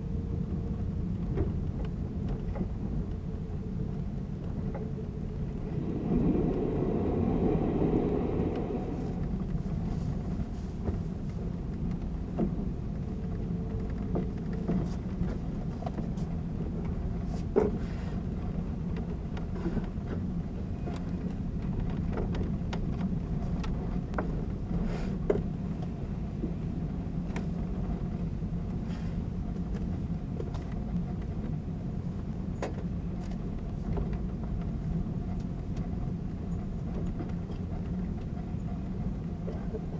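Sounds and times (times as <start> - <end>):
train wheels and motors rumbling: 0.4 - 39.9.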